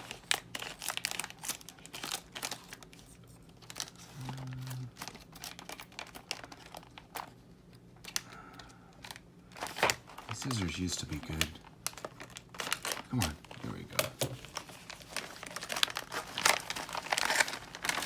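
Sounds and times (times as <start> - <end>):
plastic rustling: 0.0 - 18.0.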